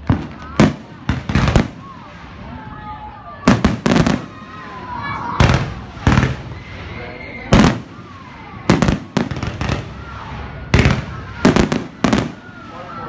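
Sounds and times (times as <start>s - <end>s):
fireworks booming: 0.0s - 2.5s, 3.4s - 12.9s.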